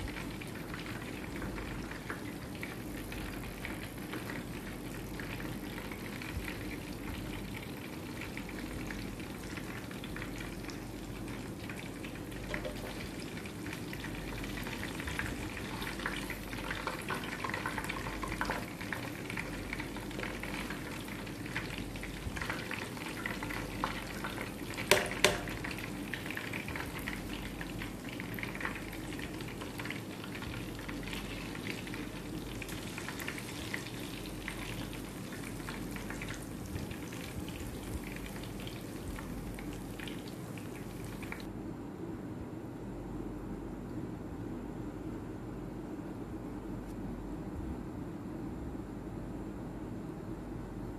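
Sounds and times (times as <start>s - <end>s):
fish frying in hot oil: 0.0s - 41.5s.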